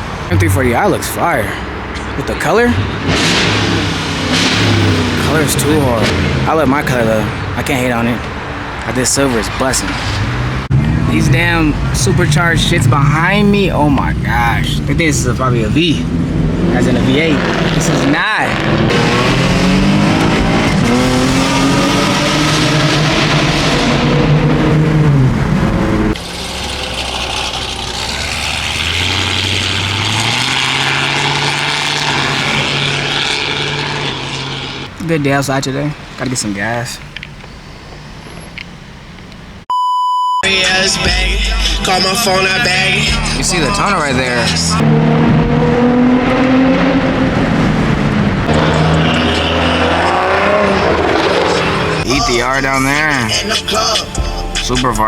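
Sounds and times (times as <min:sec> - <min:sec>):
car engine running: 0:00.0 - 0:39.7, 0:40.5 - 0:55.0
road and wind noise: 0:00.0 - 0:39.8, 0:41.8 - 0:55.0.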